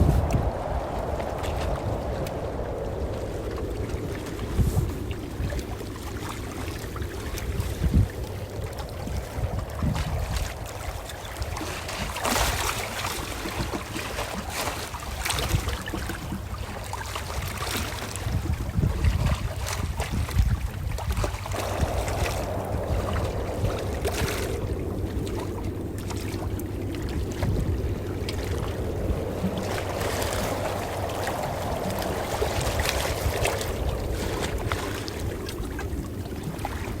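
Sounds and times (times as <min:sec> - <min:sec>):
ocean waves washing in: 0:00.0 - 0:37.0.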